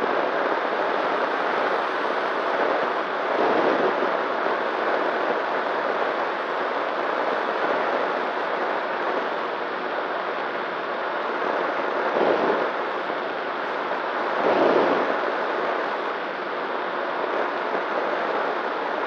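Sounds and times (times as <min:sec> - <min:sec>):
rushing wind noise: 0:00.0 - 0:19.0.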